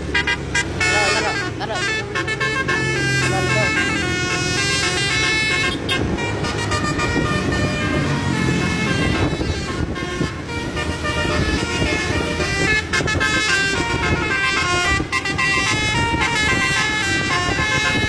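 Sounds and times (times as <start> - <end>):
bus horn playing a tune: 0.0 - 18.0
low engine rumble: 0.0 - 18.0.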